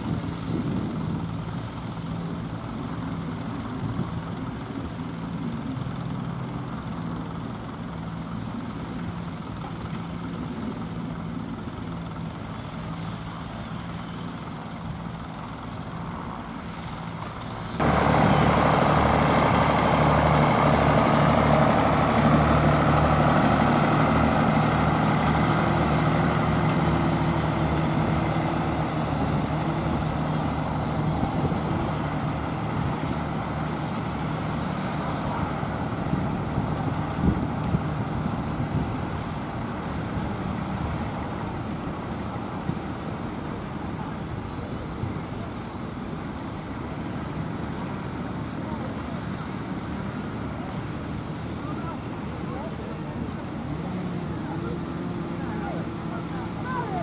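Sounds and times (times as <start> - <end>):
loud close tractor engine: 0.0 - 57.0
tractor engine running: 0.0 - 57.0.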